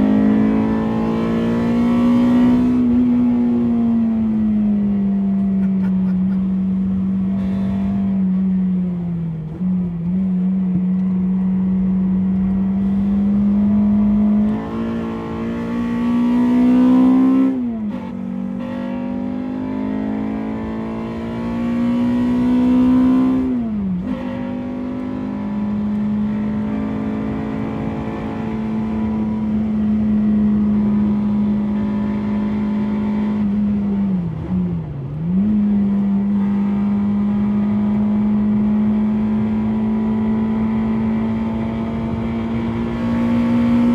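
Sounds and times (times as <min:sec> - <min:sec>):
car engine revving high: 0:00.0 - 0:43.9.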